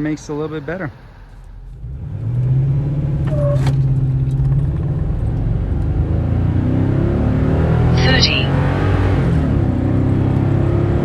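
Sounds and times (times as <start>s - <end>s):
truck engine accelerating hard: 0.0s - 11.0s.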